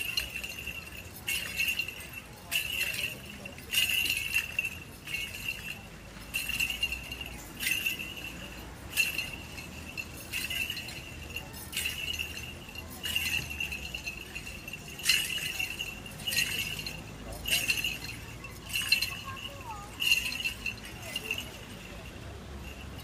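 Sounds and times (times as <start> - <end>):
censer bells jingling: 0.0 - 23.0.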